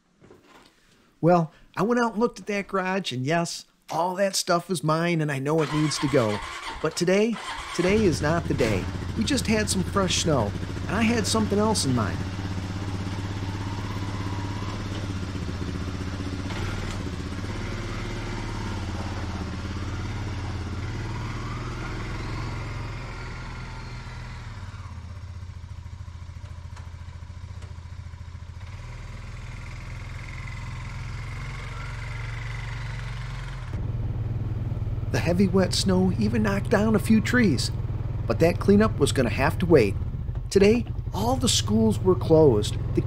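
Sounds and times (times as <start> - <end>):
atv engine running: 5.6 - 43.0.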